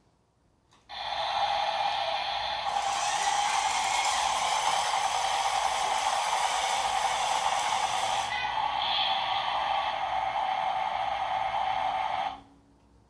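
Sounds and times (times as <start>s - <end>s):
toy motor and gears whirring: 0.9s - 12.4s.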